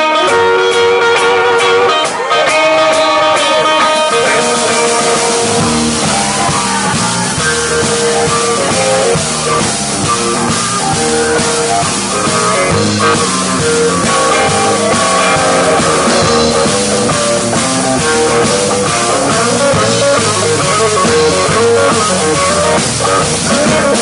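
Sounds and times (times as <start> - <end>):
bass line: 0.0 - 24.0
drumming: 0.0 - 24.0
electric guitar playing: 0.0 - 24.0.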